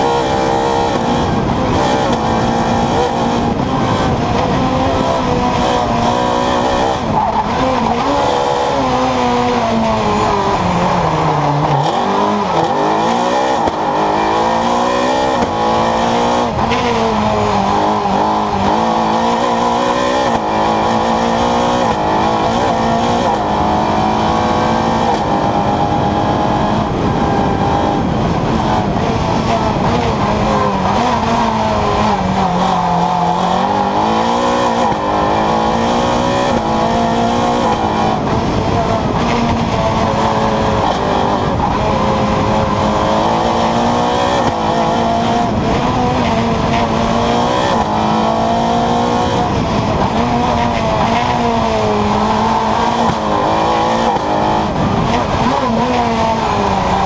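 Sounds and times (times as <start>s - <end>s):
rally car engine revving: 0.0s - 57.0s
wind and road noise: 0.0s - 57.0s.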